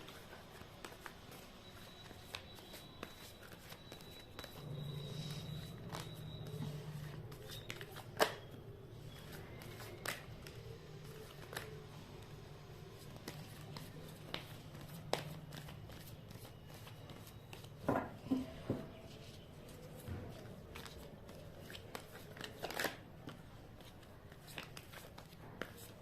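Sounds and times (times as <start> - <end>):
cards rustling: 0.0 - 17.8, 19.0 - 26.0.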